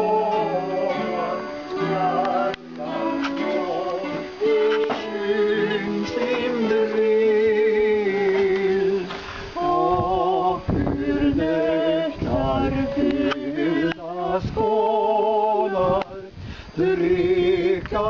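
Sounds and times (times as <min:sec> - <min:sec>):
male and female singing: 0:00.0 - 0:18.0.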